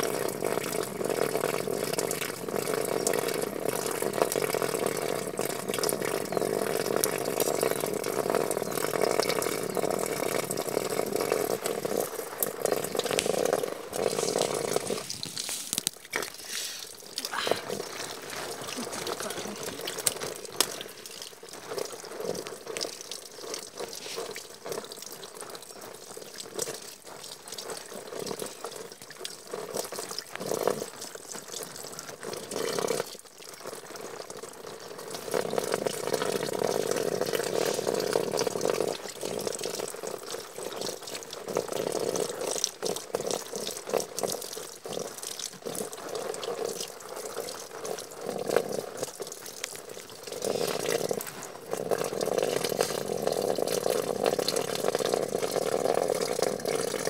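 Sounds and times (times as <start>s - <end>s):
tap water running and splashing: 0.0s - 57.0s.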